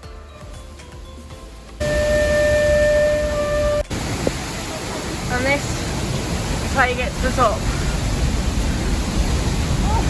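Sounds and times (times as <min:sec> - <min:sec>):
waterfall roaring: 0:01.8 - 0:10.0.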